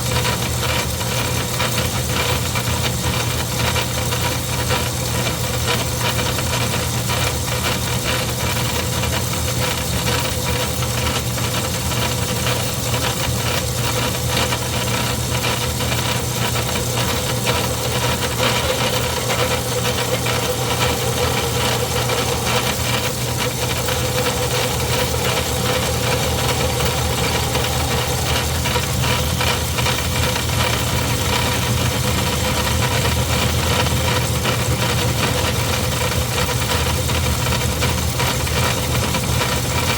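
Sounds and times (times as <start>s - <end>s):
metal lathe running: 0.0s - 39.9s.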